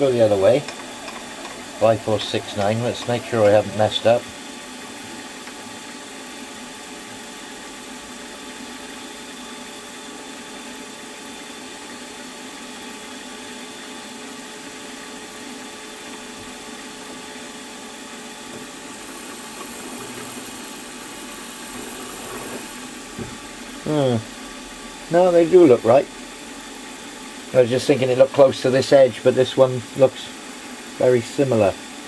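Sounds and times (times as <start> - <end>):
milling machine hum with whine: 0.0 - 32.0.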